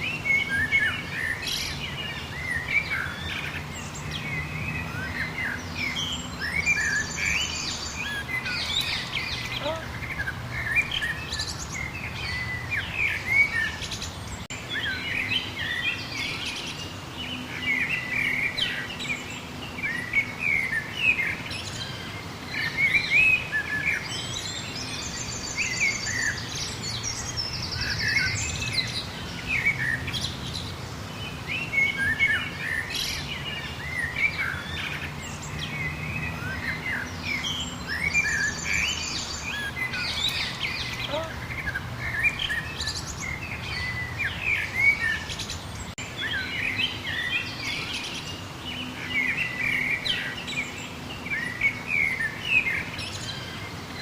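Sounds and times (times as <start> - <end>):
wild birds chirping and singing: 0.0 - 54.0.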